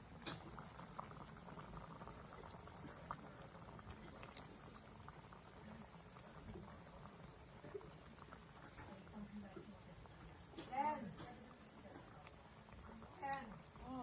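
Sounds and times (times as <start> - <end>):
pot bubbling with small pops: 0.0 - 14.0.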